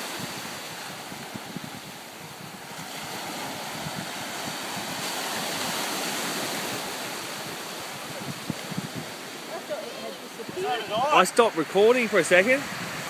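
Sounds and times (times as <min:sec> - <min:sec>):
ocean surf breaking: 0:00.0 - 0:13.0
wind on microphone: 0:00.0 - 0:13.0.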